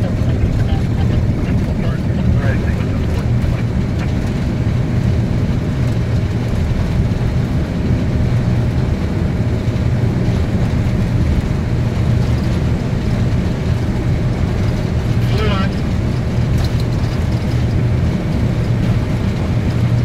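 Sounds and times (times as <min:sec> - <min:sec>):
jet engines low rumble: 0:00.0 - 0:20.0.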